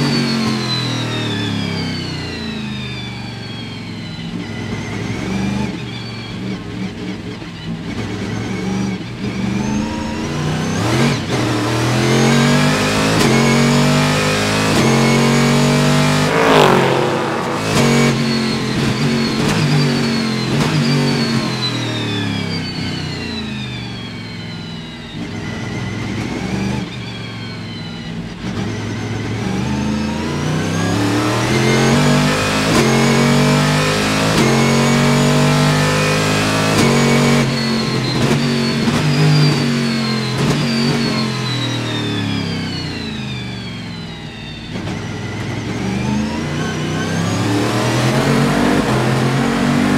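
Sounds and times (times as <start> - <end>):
race car engine accelerating: 3.6 - 49.9.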